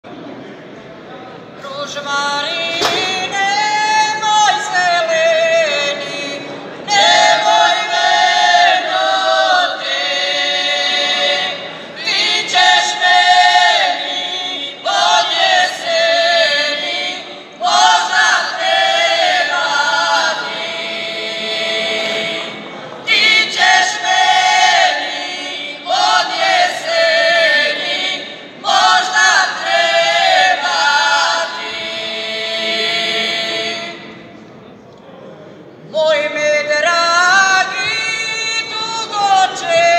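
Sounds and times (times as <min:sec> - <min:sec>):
women singing unaccompanied: 0:01.6 - 0:34.2, 0:35.9 - 0:39.9.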